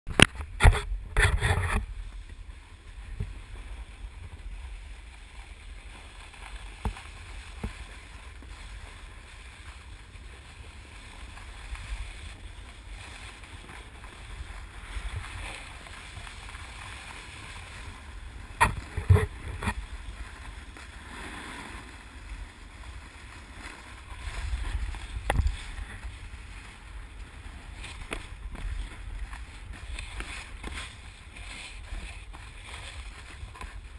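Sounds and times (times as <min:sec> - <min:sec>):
snowboard sliding over snow: 0:00.1 - 0:33.9
wind on microphone: 0:00.1 - 0:33.9.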